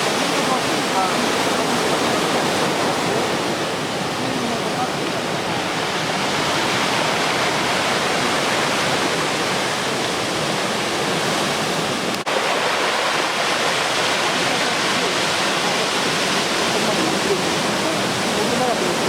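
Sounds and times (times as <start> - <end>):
surf breaking on beach: 0.0 - 19.0.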